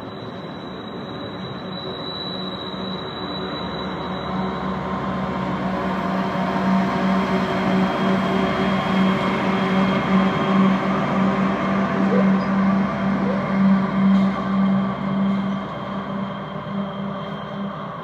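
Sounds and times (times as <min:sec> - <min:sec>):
diesel locomotive engines droning: 0:00.0 - 0:18.0
train rumble: 0:00.0 - 0:18.0.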